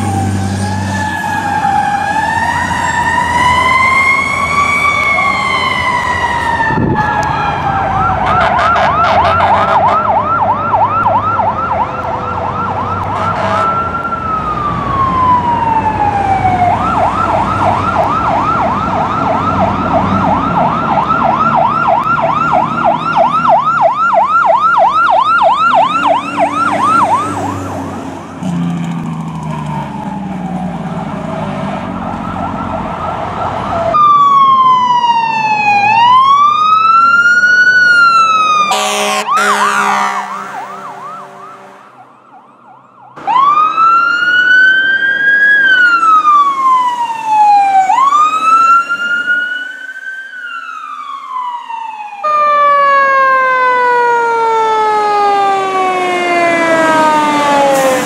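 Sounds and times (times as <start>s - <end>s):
fire truck siren wailing and yelping: 0.0s - 58.0s.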